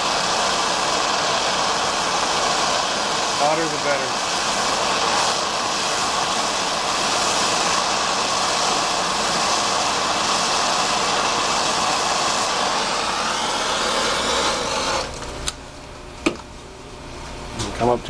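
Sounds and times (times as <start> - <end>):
gas torch flame hissing: 0.0 - 15.6.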